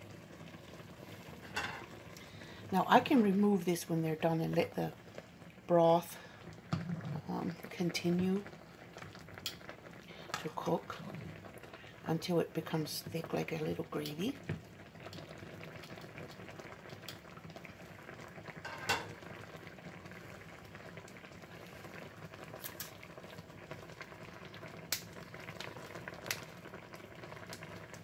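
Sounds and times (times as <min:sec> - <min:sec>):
broth boiling in a frying pan: 0:00.0 - 0:28.0.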